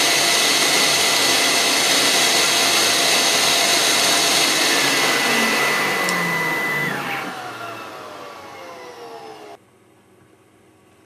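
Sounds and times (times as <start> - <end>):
router spindle high whine: 0.0 - 9.6.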